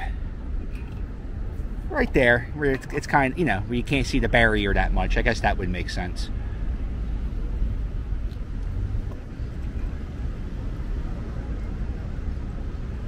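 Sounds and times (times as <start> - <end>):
low city background rumble: 0.0 - 13.0.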